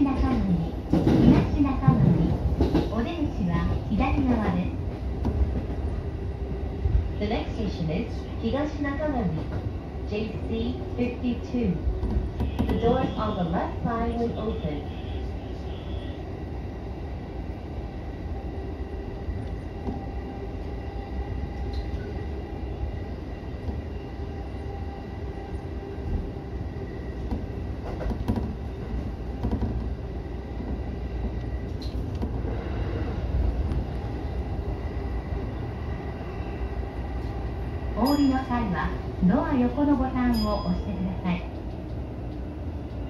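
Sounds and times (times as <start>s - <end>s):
electric train rumbling on track: 0.0s - 43.0s.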